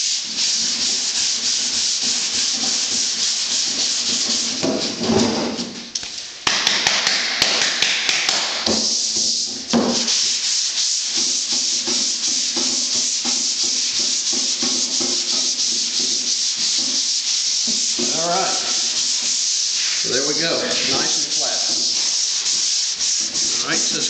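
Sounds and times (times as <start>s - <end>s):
sandpaper scraping back and forth: 0.0s - 5.8s, 7.6s - 24.0s.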